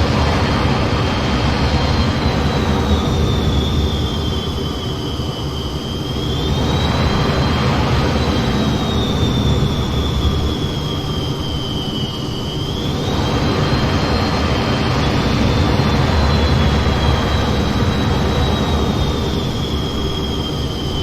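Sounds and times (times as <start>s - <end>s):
jet engines rumble and whine: 0.0s - 21.0s.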